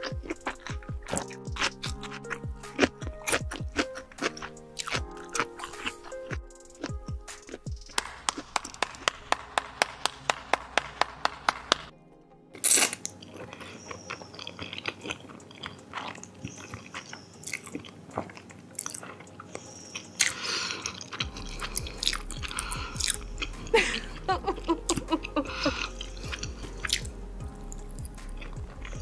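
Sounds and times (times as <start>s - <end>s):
wet mouth noises: 0.0s - 9.1s, 12.6s - 29.0s
chewing and biting: 0.0s - 9.3s, 12.6s - 29.0s.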